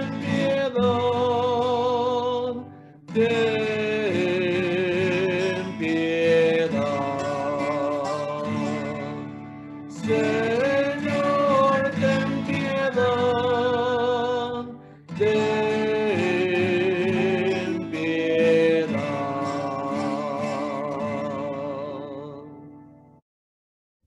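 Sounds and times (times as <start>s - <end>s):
man singing slow church song: 0.0s - 22.8s
strummed acoustic guitar: 0.0s - 23.2s.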